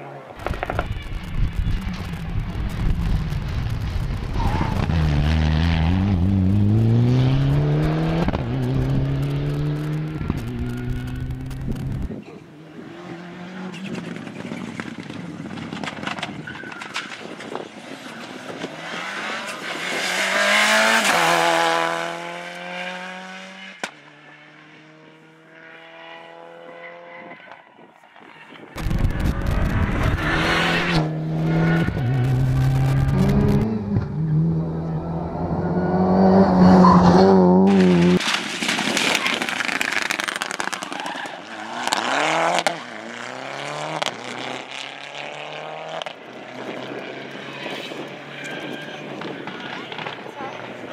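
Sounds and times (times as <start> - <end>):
rally car engines revving past: 0.0 - 27.7, 28.7 - 38.3, 39.0 - 50.9.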